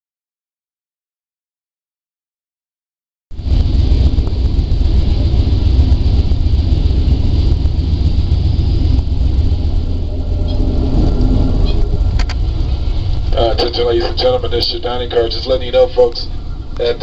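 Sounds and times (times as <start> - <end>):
train rumbling: 3.3 - 17.0.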